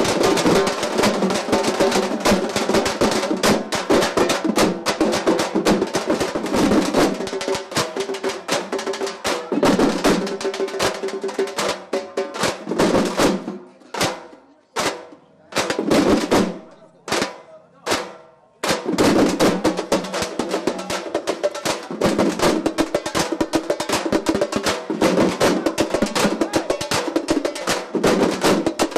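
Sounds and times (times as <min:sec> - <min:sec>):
group of drums beaten with sticks: 0:00.0 - 0:28.9.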